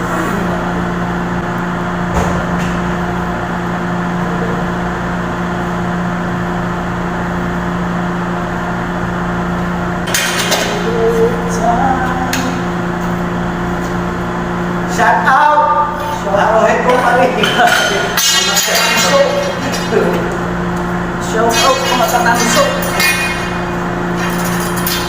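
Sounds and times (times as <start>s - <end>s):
machine drone with electrical hum: 0.0s - 25.0s.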